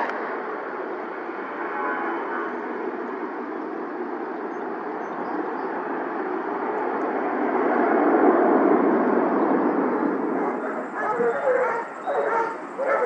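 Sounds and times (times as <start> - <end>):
jet engines roaring at takeoff: 0.0 - 13.0.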